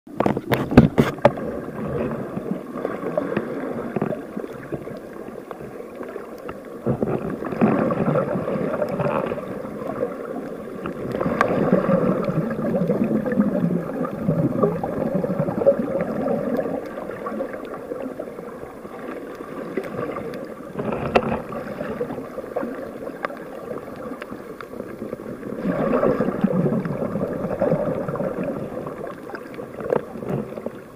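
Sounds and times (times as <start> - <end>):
muffled water sloshing and gurgling: 0.1 - 30.9.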